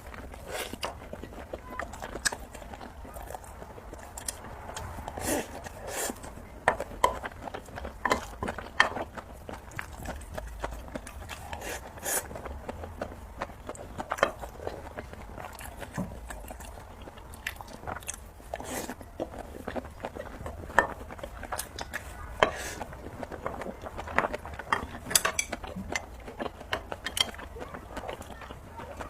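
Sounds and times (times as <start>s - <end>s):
chewing with wet mouth clicks: 0.0s - 29.0s.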